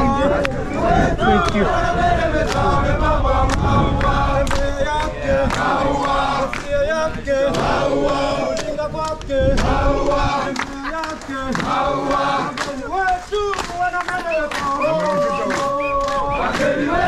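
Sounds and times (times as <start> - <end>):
male voices singing together: 0.0 - 17.0.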